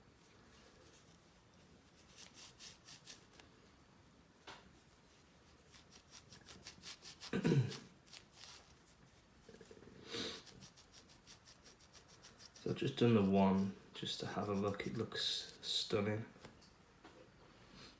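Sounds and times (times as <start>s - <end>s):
cloth rubbing on metal: 0.1s - 3.5s, 4.7s - 16.4s.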